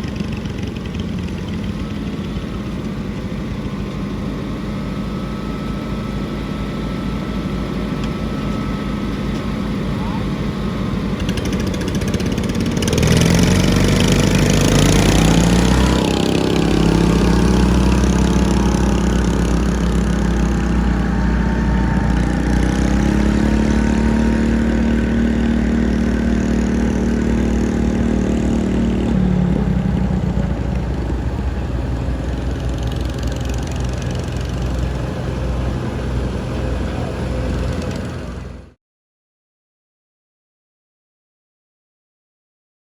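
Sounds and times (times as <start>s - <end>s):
lawnmower engine revving: 0.0s - 38.8s.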